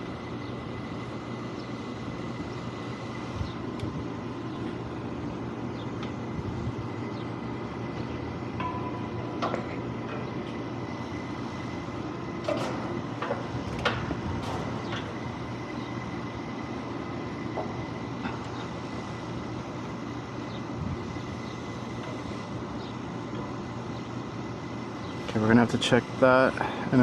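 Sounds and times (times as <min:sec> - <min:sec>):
refrigeration equipment humming: 0:00.0 - 0:27.0.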